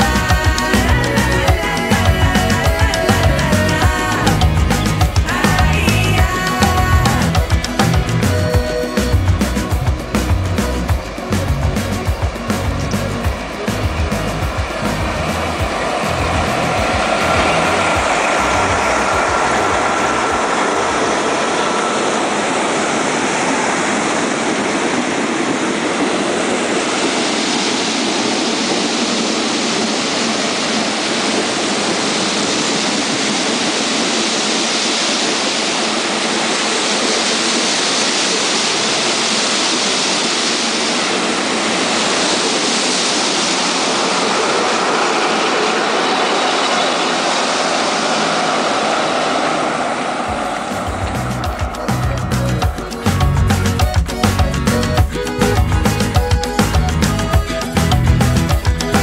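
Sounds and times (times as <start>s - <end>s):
train running noise: 0.0s - 59.0s
water rushing and spraying: 0.0s - 59.0s.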